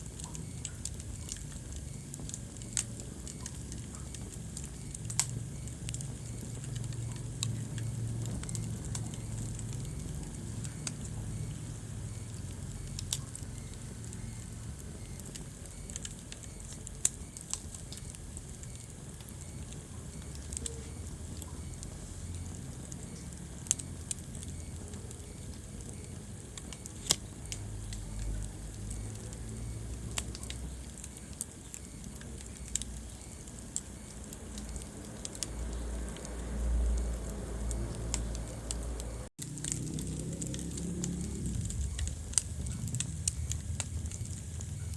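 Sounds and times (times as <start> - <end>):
low rumble of flames: 0.0 - 44.9
sharp pops of fire: 0.0 - 44.9
wood fire crackling: 0.0 - 44.9.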